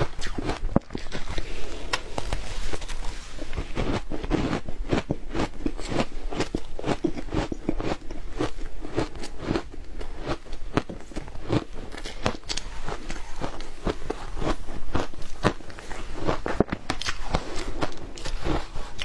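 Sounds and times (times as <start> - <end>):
crunching and chewing ice: 0.0 - 19.0.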